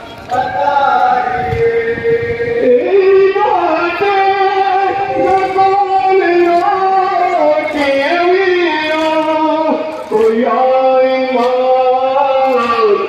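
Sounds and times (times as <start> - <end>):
person singing a lament: 0.2 - 13.0.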